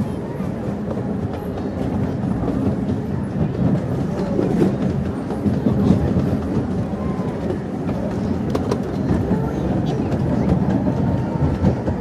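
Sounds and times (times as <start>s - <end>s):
miniature train wheels on track: 0.0s - 12.0s.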